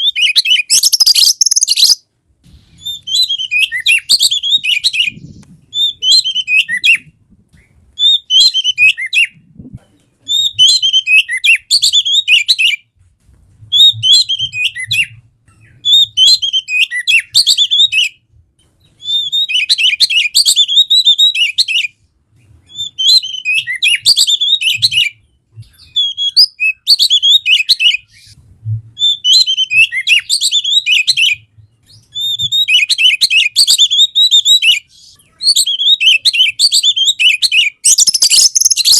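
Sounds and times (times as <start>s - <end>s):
songbird whistling song: 0.0s - 2.0s, 2.7s - 9.4s, 10.2s - 12.9s, 13.7s - 28.4s, 29.0s - 38.9s.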